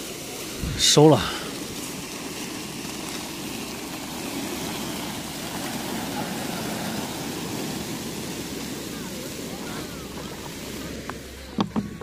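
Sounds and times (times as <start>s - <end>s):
tarpaulin dragged across asphalt: 0.0s - 11.5s
wind rumble on microphone: 0.0s - 12.0s.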